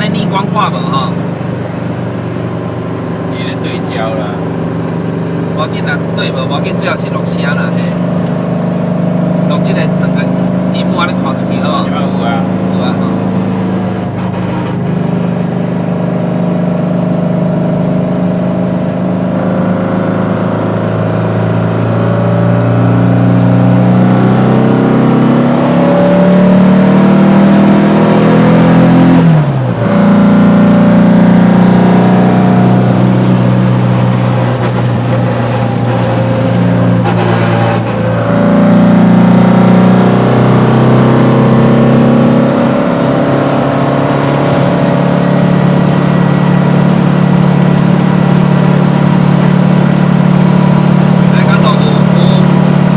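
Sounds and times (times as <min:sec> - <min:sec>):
car engine accelerating: 0:00.0 - 0:52.9.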